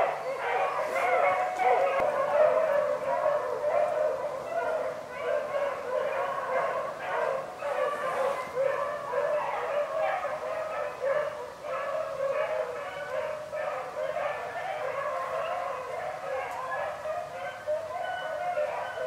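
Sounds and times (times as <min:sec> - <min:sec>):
hounds baying: 0:00.0 - 0:19.0.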